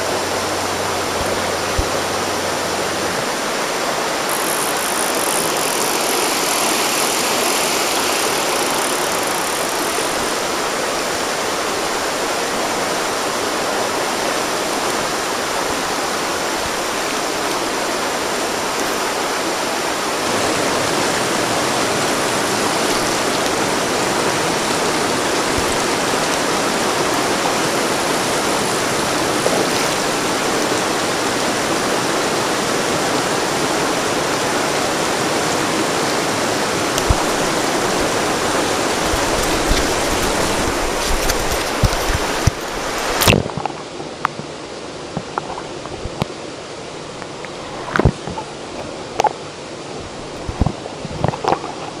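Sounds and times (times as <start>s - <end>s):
river rushing over rocks: 0.0s - 52.0s.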